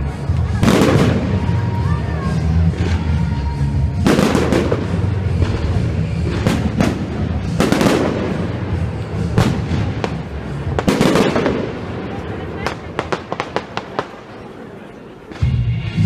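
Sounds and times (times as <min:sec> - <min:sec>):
fireworks bangs with crackle: 0:00.0 - 0:14.6.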